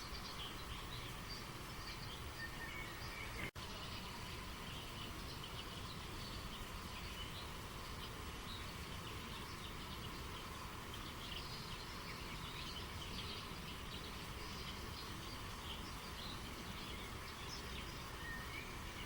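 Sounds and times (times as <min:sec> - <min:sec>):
flowing stream: 0:00.0 - 0:19.0
small birds chirping: 0:00.0 - 0:19.0.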